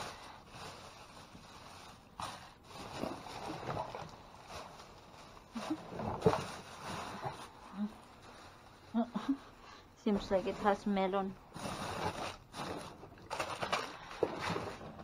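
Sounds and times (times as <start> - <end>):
packages rustling: 0.0 - 8.9, 11.4 - 15.0.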